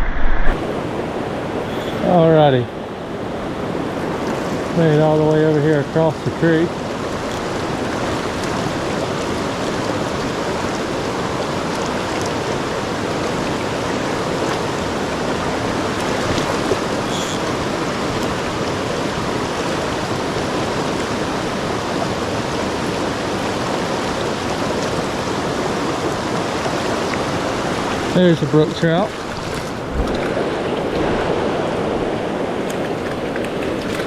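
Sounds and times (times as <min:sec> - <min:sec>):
creek water rushing over rocks: 0:00.0 - 0:34.0.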